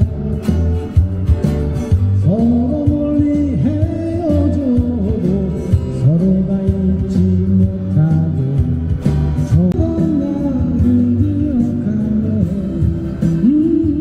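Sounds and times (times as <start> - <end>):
acoustic guitar: 0.0 - 14.0
person singing slow melody: 2.2 - 14.0.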